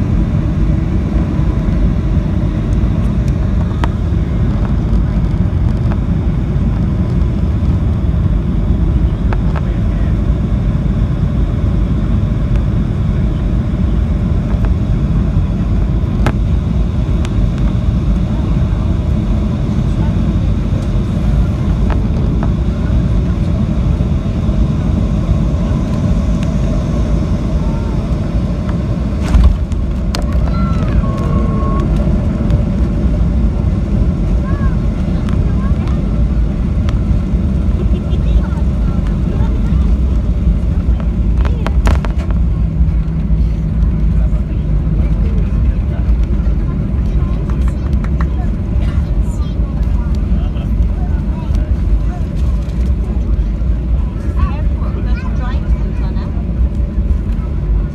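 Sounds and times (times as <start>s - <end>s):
airplane cabin noise: 0.0s - 57.9s.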